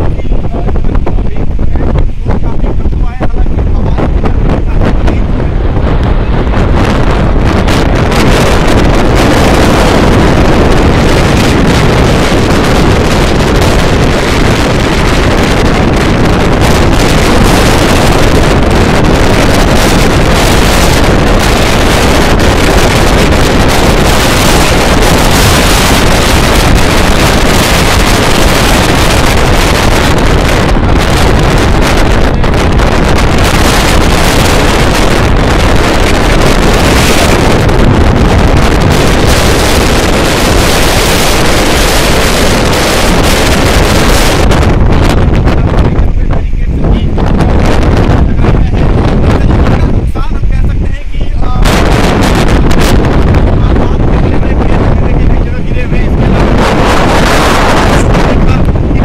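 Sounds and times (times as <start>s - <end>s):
strong wind on microphone: 0.0s - 59.0s.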